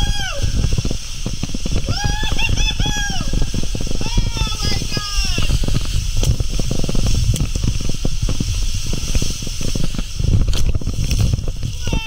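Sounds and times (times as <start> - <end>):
low rumble: 0.0 - 12.0
rushing spraying water: 0.0 - 12.0.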